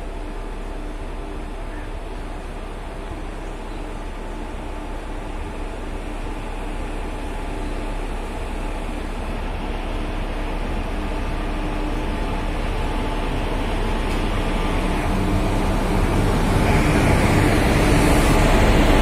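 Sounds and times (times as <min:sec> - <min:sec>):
electric locomotive humming: 0:00.0 - 0:19.0.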